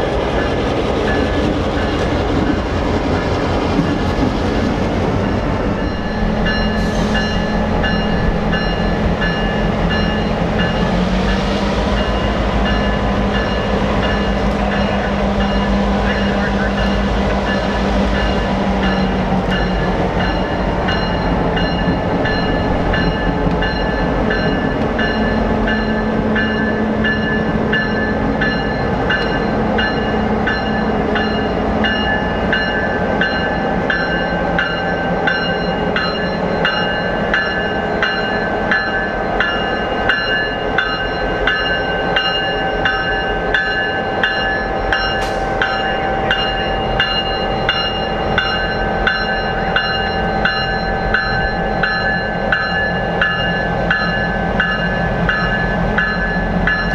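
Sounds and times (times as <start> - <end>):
diesel locomotive engine drone: 0.0 - 56.9
locomotive bell ringing: 5.2 - 56.9.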